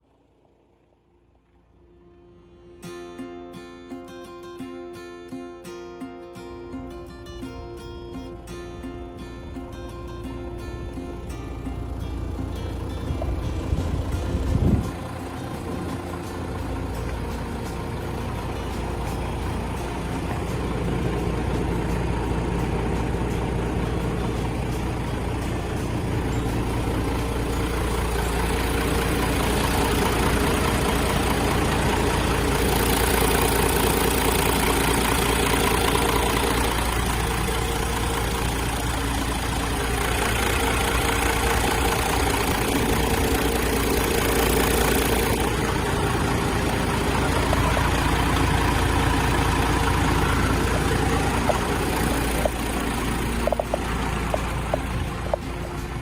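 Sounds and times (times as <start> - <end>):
truck diesel engine idling: 6.5 - 56.0.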